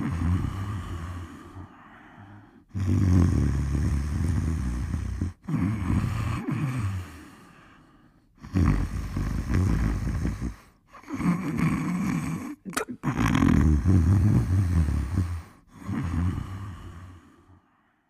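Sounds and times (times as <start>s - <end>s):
rough low snores: 0.0s - 7.6s, 8.3s - 17.6s.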